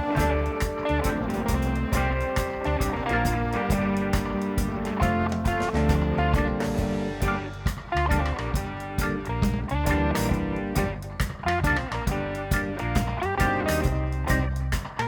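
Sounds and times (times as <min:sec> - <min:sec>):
guitar music with drum beat: 0:00.0 - 0:15.0.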